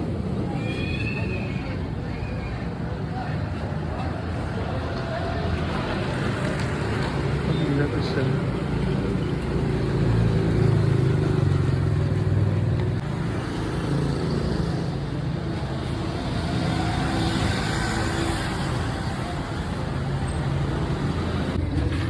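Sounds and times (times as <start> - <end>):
street noise: 0.0 - 22.0.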